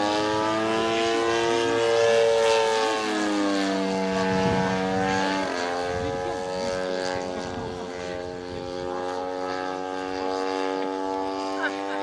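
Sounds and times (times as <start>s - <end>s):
model airplane engine buzzing: 0.0s - 12.0s.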